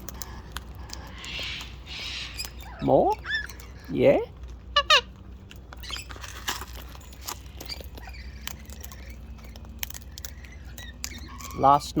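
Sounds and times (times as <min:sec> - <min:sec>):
cockatoo cracking seed: 0:00.0 - 0:11.6.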